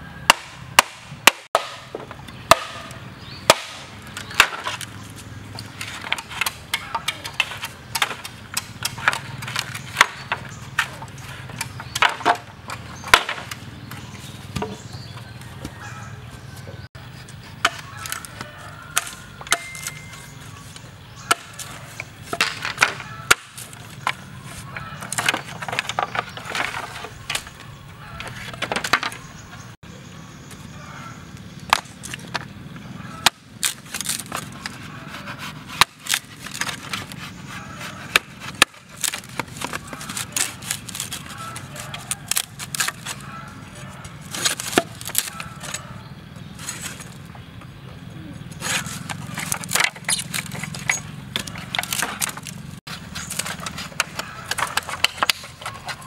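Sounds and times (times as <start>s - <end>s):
machete splitting bamboo: 0.3s - 14.8s, 17.5s - 27.6s, 31.7s - 32.5s, 33.2s - 45.9s, 48.6s - 56.0s
blade scraping bamboo: 1.6s - 16.0s, 17.0s - 29.7s, 31.7s - 47.3s, 48.2s - 56.0s.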